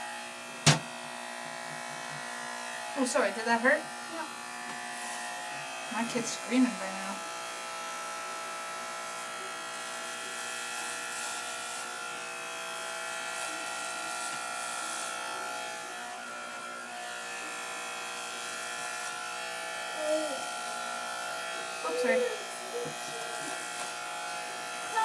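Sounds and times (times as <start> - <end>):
electric hair clippers buzzing: 0.0 - 25.0.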